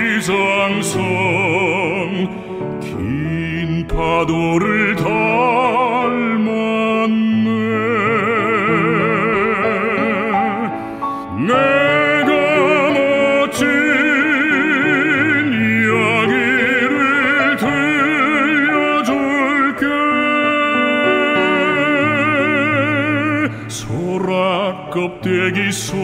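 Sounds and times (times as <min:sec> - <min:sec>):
man singing operatic style: 0:00.0 - 0:26.0
piano accompaniment: 0:00.0 - 0:26.0.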